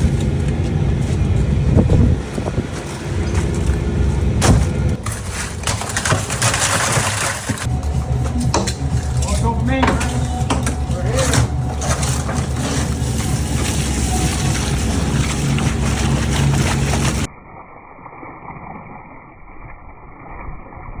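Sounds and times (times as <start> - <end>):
boat engine running: 0.0 - 17.3
deck noise: 0.0 - 17.3.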